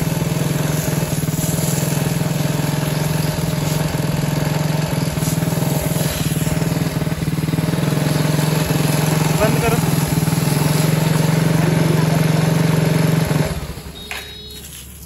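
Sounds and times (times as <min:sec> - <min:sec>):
high-pressure water jet hissing: 0:00.0 - 0:15.0
motorcycle engine running: 0:00.0 - 0:15.0.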